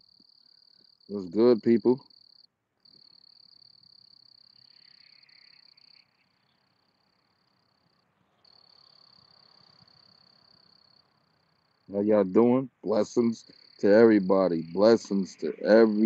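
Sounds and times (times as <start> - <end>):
high-pitched insect trill: 0.0 - 12.0, 12.9 - 16.0.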